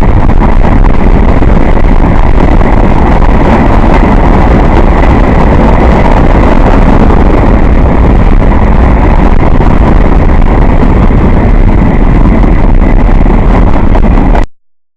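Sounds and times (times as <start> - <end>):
train wheels rumbling on rail: 0.0 - 14.4
wind buffeting microphone: 0.0 - 14.5.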